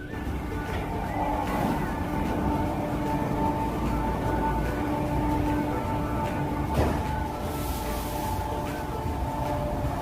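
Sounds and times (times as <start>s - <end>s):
car wash machinery rumble: 0.0s - 10.0s
high whine: 0.0s - 10.0s.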